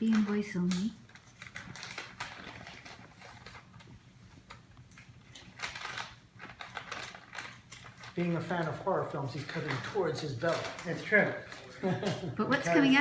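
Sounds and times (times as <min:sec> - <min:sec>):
tape and cardboard rustling: 0:00.0 - 0:12.1.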